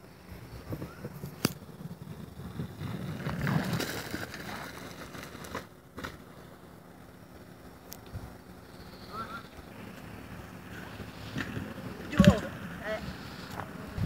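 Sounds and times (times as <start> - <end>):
bike tyres crunching on ground: 0.3 - 7.5, 8.8 - 14.0.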